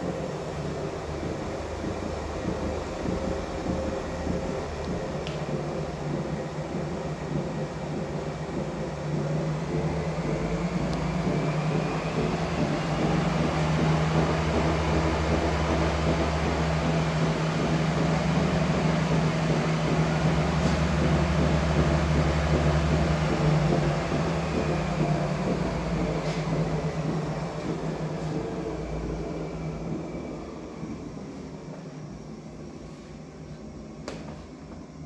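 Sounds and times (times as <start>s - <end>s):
treadmill droning hum: 0.0s - 35.0s.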